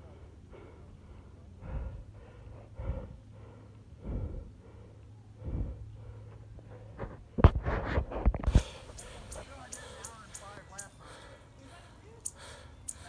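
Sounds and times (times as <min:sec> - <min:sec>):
person breathing hard: 0:00.0 - 0:07.2, 0:08.5 - 0:13.0.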